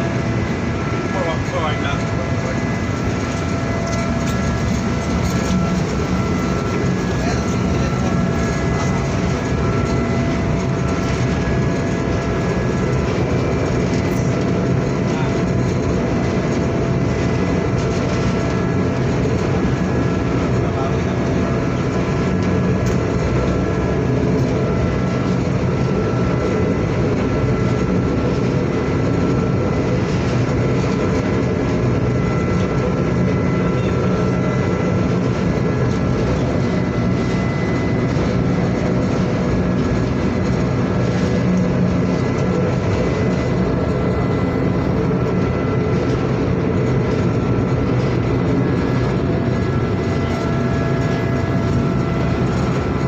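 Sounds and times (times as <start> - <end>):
ship engines low drone: 0.0 - 53.0.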